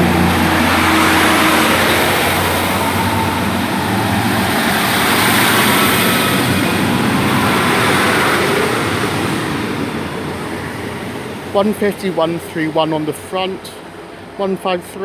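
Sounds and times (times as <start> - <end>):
diesel train engines rumbling: 0.0 - 15.0.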